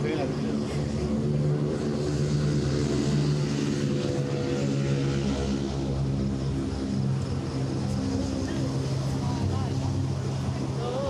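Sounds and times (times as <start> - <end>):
city street noise: 0.0 - 11.0.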